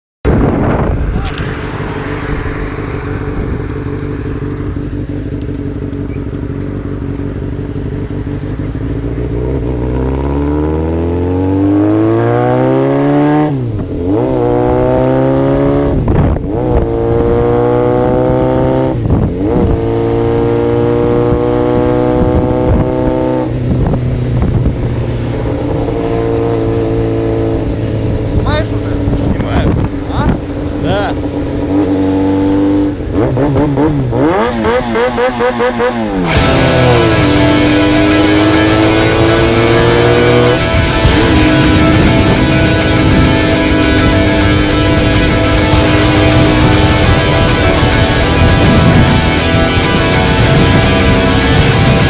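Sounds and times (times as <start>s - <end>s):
motorcycle engine accelerating: 0.3s - 52.0s.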